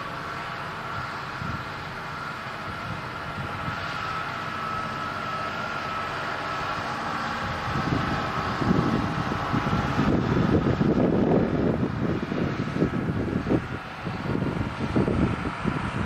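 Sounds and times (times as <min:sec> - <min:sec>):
harvester machinery running: 0:00.0 - 0:16.0
rough low rumbling: 0:00.0 - 0:16.0.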